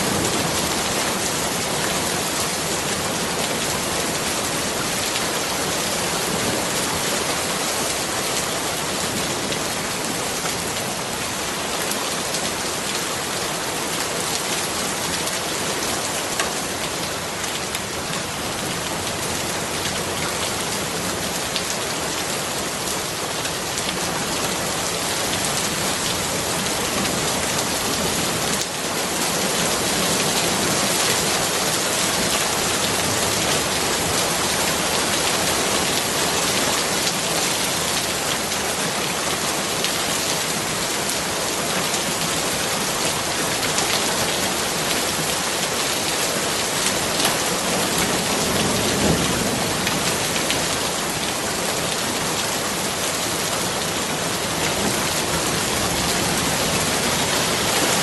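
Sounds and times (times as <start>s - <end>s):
dense rainfall: 0.0s - 58.0s.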